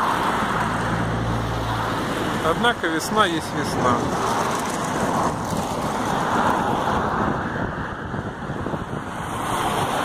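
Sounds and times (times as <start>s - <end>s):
road traffic: 0.0s - 10.0s
wind buffeting microphone: 0.0s - 10.0s.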